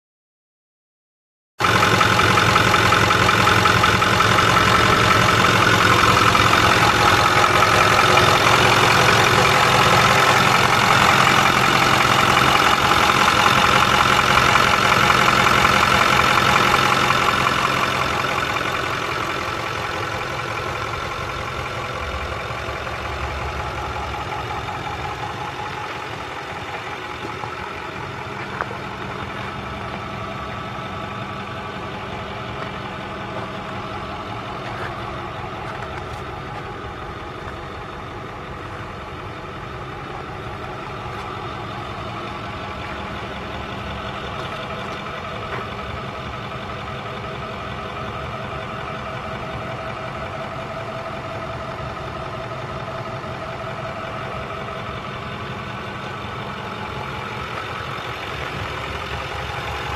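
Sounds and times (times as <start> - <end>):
diesel engine idling: 1.6 - 59.9.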